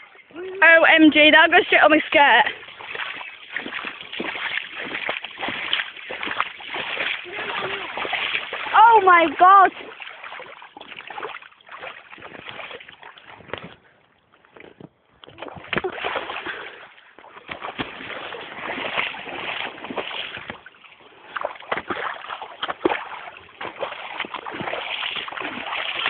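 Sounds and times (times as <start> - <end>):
feet splashing in puddle: 0.0 - 26.0.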